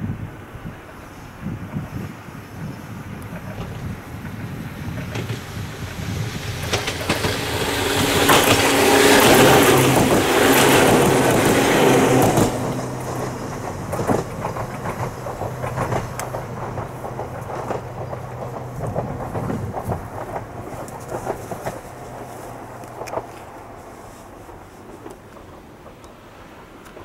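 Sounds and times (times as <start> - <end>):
train wheels on rails: 0.2 - 27.0
wheels clicking over rail joints: 1.7 - 27.0.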